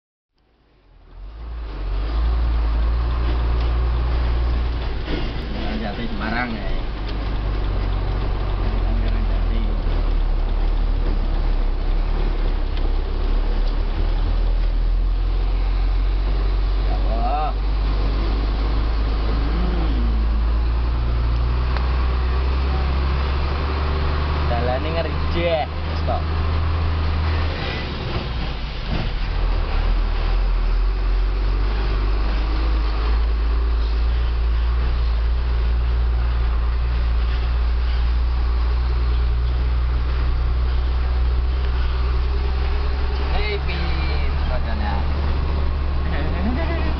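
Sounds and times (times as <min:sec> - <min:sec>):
truck diesel engine rumbling: 0:00.4 - 0:46.9.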